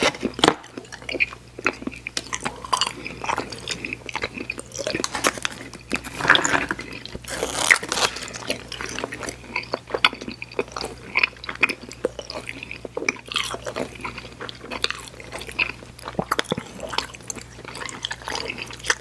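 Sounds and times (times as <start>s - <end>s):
chewing sticky candy: 0.0s - 19.0s.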